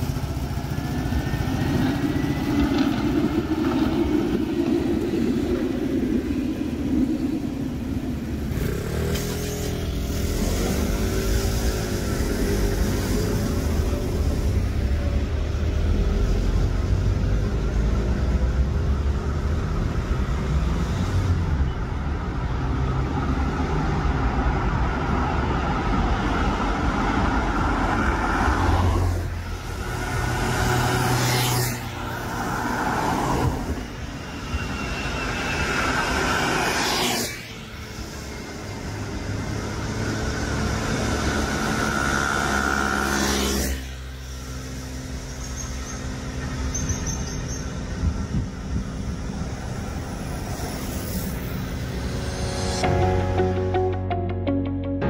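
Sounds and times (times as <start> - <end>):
cars passing close by: 0.0 - 54.2
steady traffic hum: 0.0 - 55.0.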